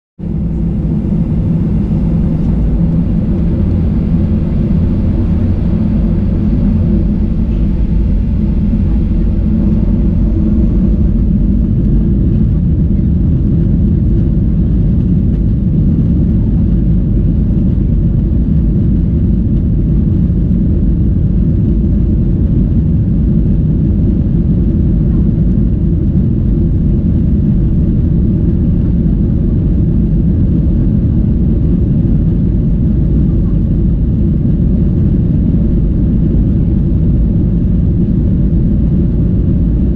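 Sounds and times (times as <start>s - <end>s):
jet engines rumbling: 0.2s - 39.9s.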